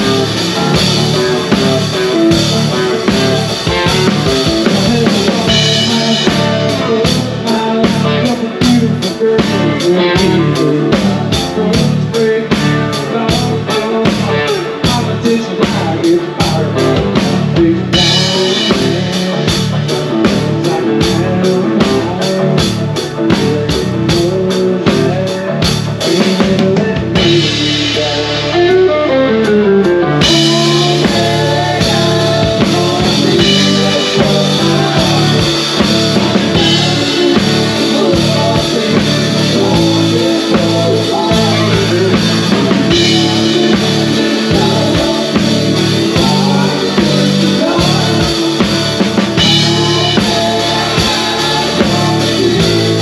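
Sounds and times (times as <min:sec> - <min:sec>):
drum kit beat: 0:00.0 - 0:53.0
electric guitars: 0:00.0 - 0:53.0
keyboard: 0:00.0 - 0:53.0.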